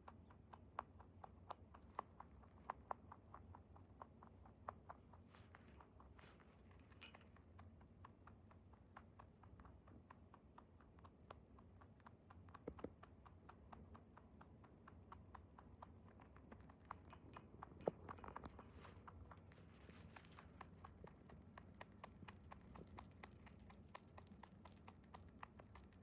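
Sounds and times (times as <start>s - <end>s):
rabbit chewing food: 0.0s - 26.0s.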